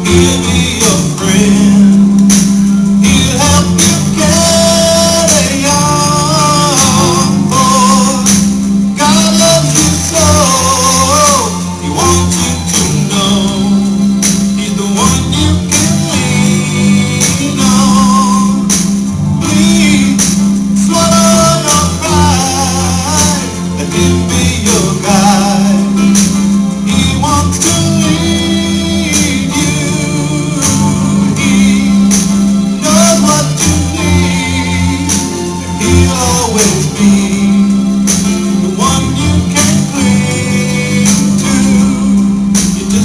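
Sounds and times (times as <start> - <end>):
gospel song with singing and guitar: 0.0 - 43.0
tambourine beat: 0.0 - 43.0.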